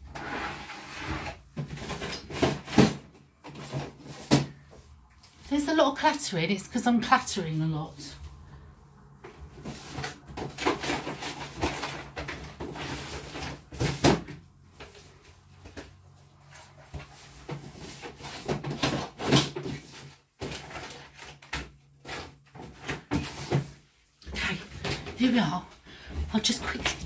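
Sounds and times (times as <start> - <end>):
rummaging in a cupboard: 0.0 - 27.0.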